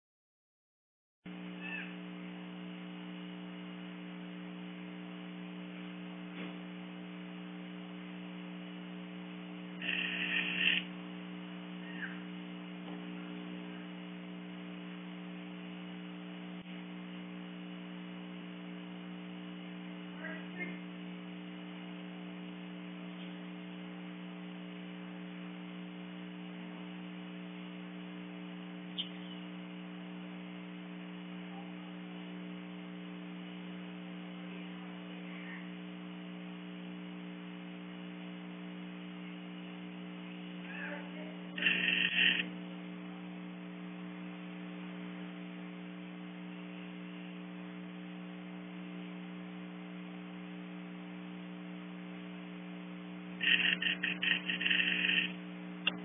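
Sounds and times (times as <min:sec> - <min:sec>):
low electrical hum: 0:01.3 - 0:56.0.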